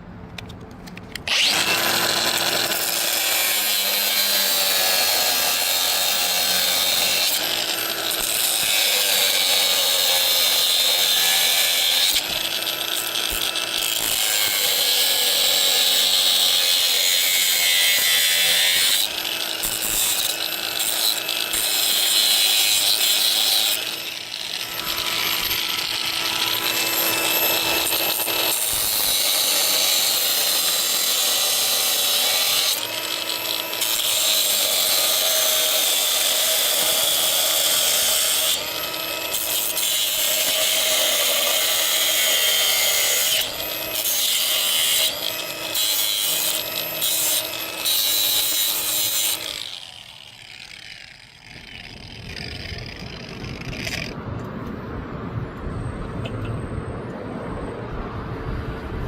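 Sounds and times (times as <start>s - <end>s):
power tool grinding metal: 1.1s - 54.2s.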